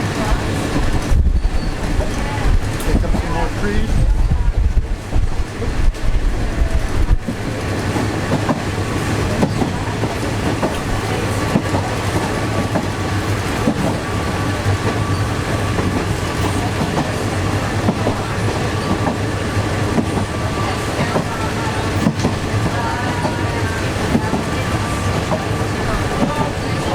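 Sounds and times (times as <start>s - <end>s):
train wheels clattering on rails: 0.0s - 26.9s
wind buffeting microphone: 0.0s - 26.9s.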